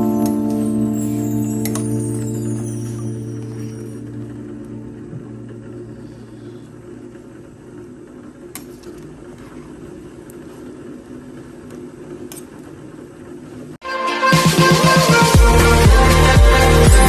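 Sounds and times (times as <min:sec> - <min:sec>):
low whirring hum: 0:00.0 - 0:13.8.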